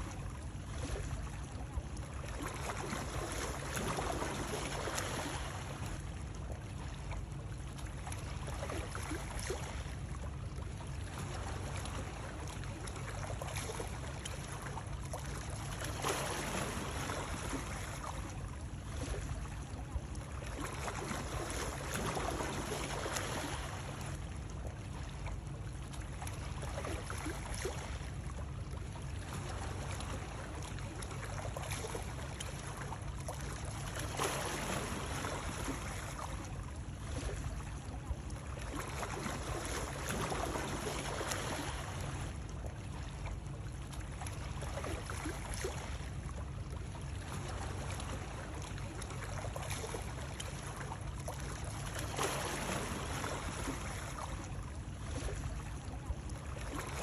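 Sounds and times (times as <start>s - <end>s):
water lapping: 0.0s - 57.0s.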